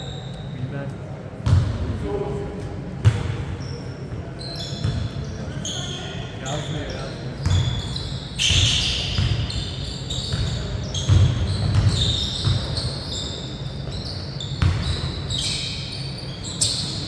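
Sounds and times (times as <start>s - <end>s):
sneakers squeaking on floor: 0.0s - 0.7s, 1.4s - 1.8s, 3.0s - 17.0s.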